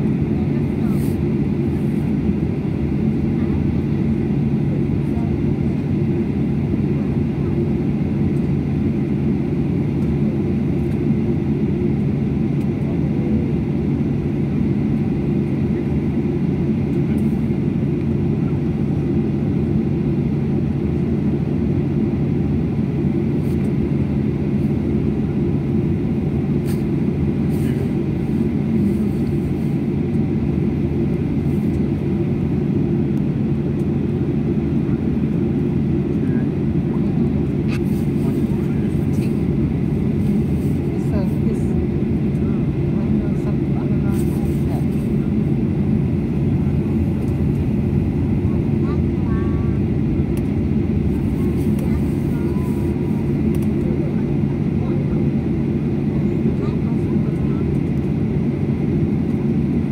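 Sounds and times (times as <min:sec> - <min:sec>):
constant low hum: 0:00.0 - 0:59.9
jet engines rumbling: 0:00.0 - 0:59.9.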